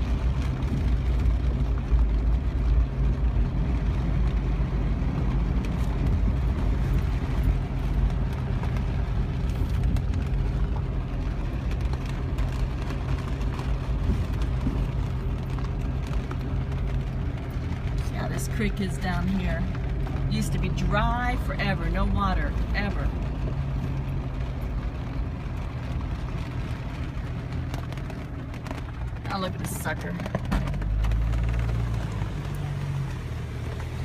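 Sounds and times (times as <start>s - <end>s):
car engine hum: 0.0s - 34.0s
road noise inside car: 0.0s - 34.0s.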